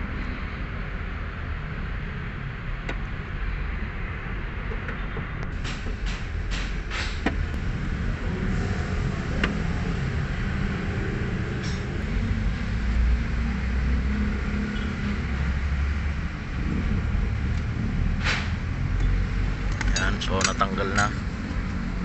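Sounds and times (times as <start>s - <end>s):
low mechanical rumble: 0.0s - 22.0s.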